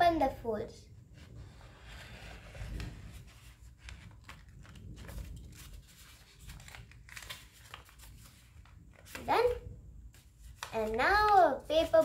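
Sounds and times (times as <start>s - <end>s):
paper rustling and crinkling: 1.3s - 12.0s.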